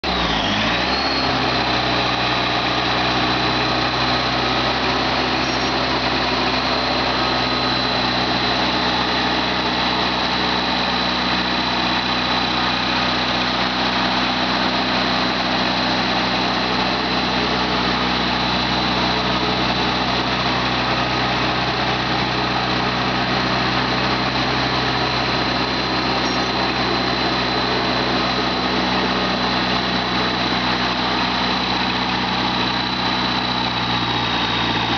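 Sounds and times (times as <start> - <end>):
concrete saw engine running: 0.0 - 34.9
steady high whine: 0.2 - 34.9.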